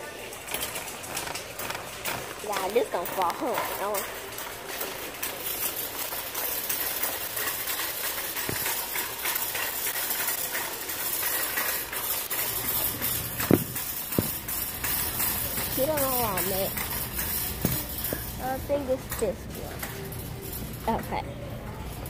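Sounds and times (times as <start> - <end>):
shopping cart wheels rolling: 0.0 - 22.0
wire basket rattling: 0.0 - 22.0.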